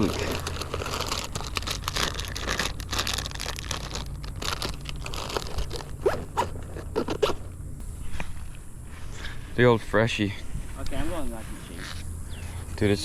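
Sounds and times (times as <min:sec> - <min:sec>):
close rustling and crunching: 0:00.0 - 0:12.8.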